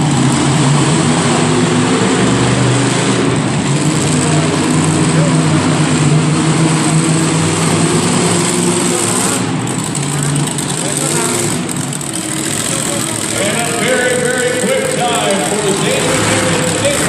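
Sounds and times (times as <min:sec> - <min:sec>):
monster truck engine running: 0:00.0 - 0:17.0.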